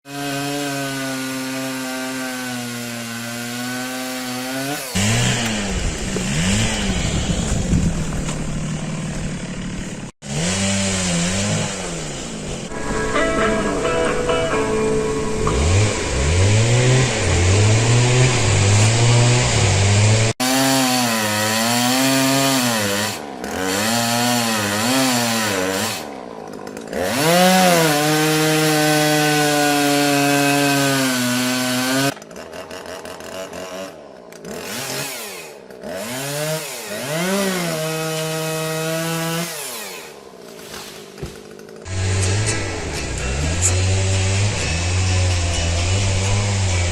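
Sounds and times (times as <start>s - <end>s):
chainsaw engine revving: 0.1s - 12.7s, 15.5s - 40.3s, 41.5s - 46.9s.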